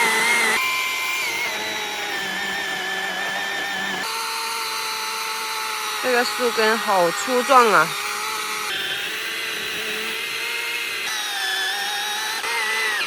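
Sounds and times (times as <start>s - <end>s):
electric saw cutting roots: 0.0s - 13.0s.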